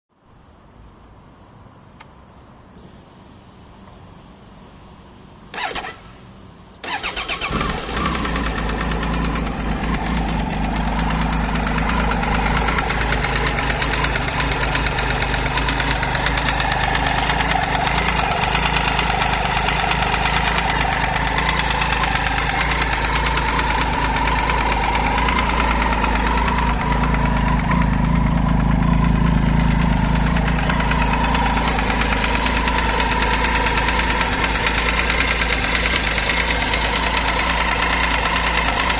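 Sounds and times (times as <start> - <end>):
motorcycle engine starting and idling: 2.7 - 38.9
engine ticking: 5.4 - 38.9.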